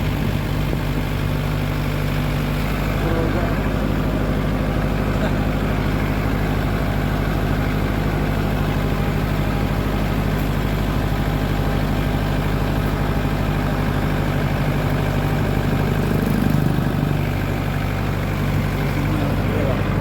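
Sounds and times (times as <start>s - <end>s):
truck engine droning: 0.0s - 20.0s.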